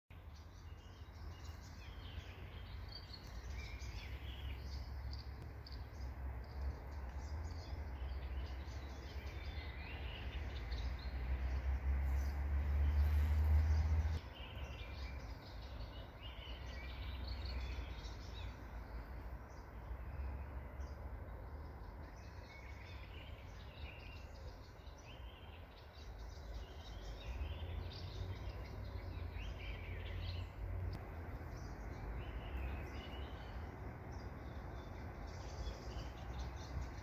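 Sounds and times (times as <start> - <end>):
small birds chirping: 0.1 - 37.0.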